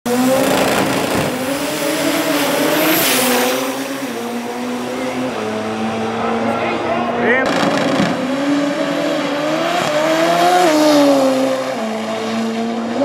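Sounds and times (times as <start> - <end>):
drag car engine at high rpm: 0.0 - 13.0.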